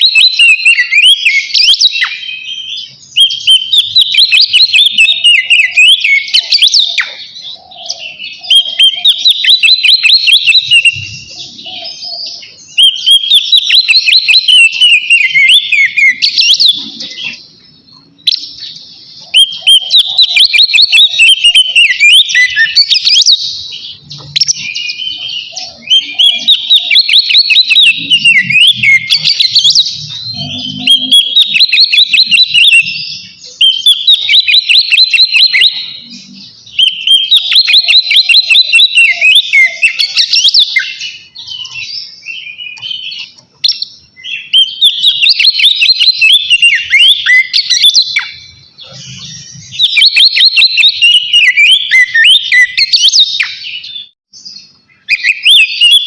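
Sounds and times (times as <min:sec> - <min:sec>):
songbird whistling and trilling: 0:00.0 - 0:56.0.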